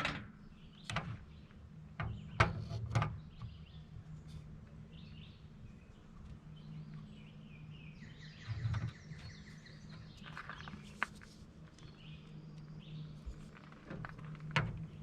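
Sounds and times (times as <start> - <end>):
low steady hum: 0.0 - 15.0
birds chirping: 0.3 - 15.0.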